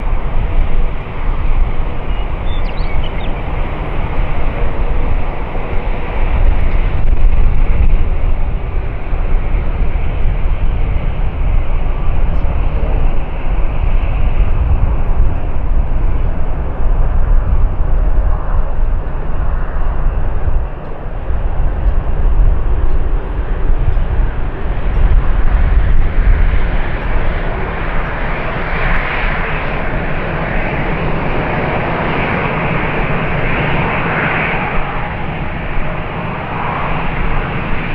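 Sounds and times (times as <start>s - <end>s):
jet engines rumbling: 0.0s - 37.9s
rushing airflow: 0.0s - 37.9s.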